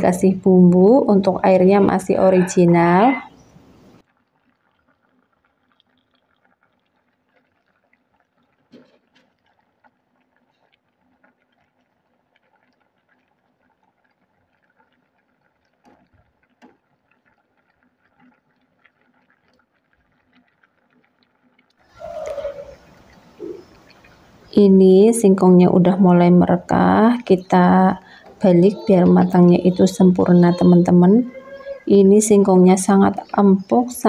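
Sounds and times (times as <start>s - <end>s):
water bubbling at a boil: 0.0s - 34.0s.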